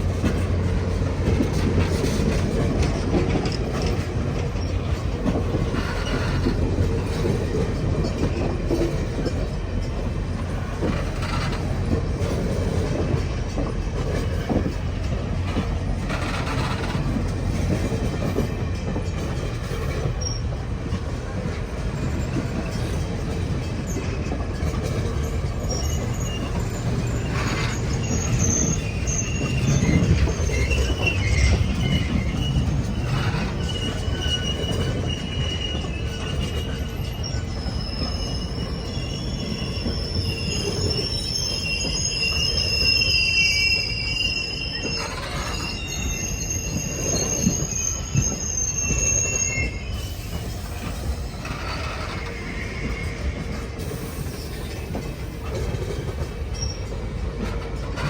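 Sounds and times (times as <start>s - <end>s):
train knocks: 0.0s - 43.1s, 44.8s - 58.0s
train wheels rumbling on rail: 0.0s - 58.0s
high wheel squeal: 1.5s - 12.9s, 16.0s - 18.5s, 19.6s - 20.6s, 21.9s - 58.0s.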